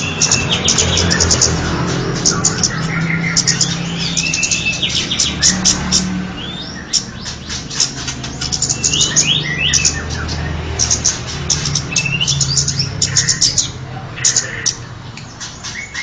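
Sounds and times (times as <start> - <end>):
recorded bird chirps and whistles: 0.0 - 16.0.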